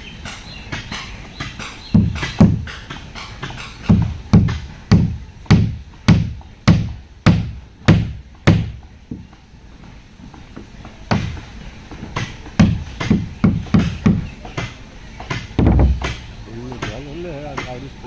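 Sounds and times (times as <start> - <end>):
heavy blows on timber: 0.2 - 9.4, 10.6 - 17.8.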